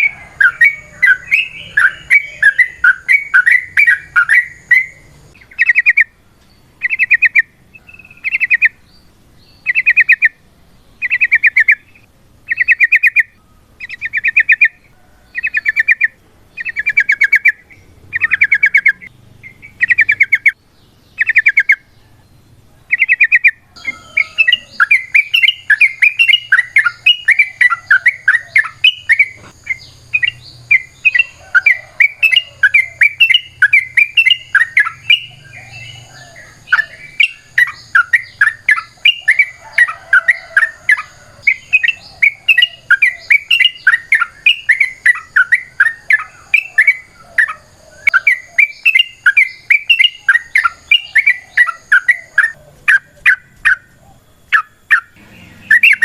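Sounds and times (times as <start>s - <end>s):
bird warbling song: 0.0s - 56.0s.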